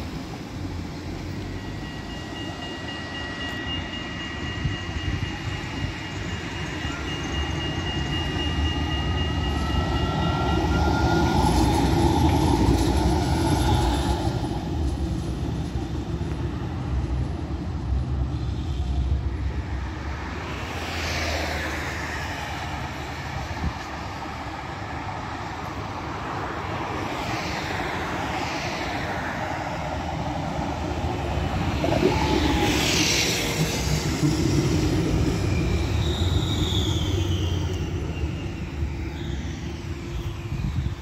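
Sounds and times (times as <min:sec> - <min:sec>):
tram rumbling: 0:00.0 - 0:41.0.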